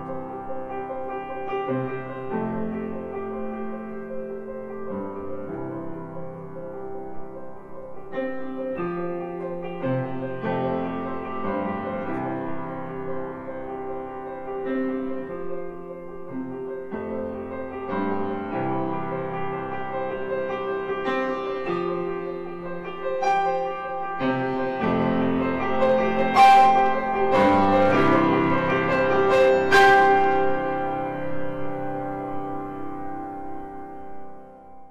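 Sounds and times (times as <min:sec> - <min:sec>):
piano background music: 0:00.0 - 0:34.9.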